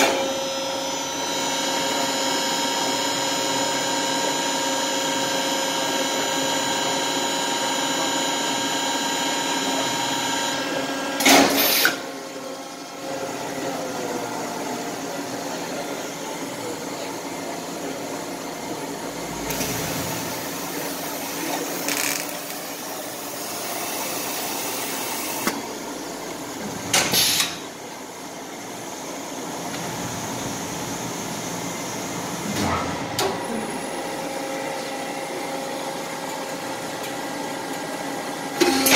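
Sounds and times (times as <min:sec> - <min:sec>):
record press machine hum: 0:00.0 - 0:38.9.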